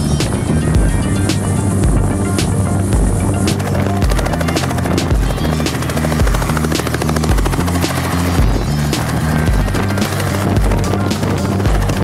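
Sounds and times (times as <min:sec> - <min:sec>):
funk background music: 0:00.0 - 0:12.0
helicopter rotor and engine: 0:00.0 - 0:12.0.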